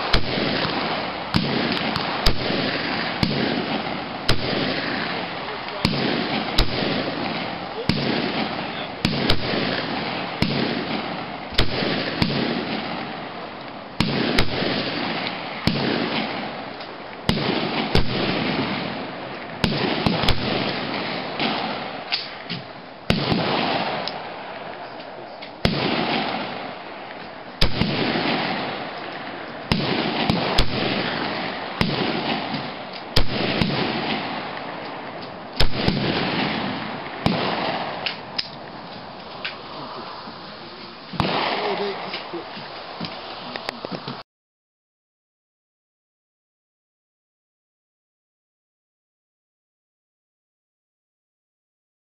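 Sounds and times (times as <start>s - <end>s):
rifle shots echoing: 0.0s - 43.4s.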